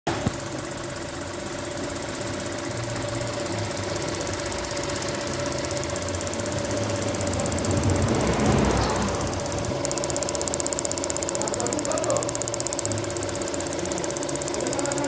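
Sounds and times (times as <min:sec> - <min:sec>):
valve fast ticking: 0:00.1 - 0:15.0
car engine idling: 0:00.4 - 0:15.0.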